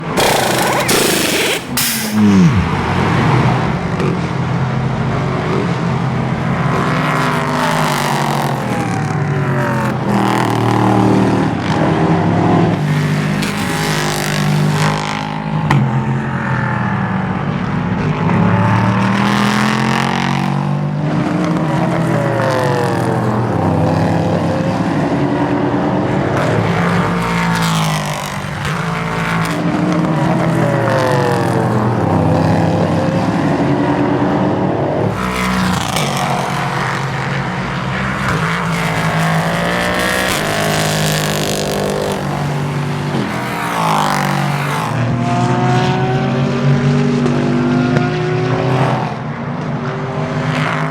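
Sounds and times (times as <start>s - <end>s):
racing car engines passing: 0.0s - 50.9s.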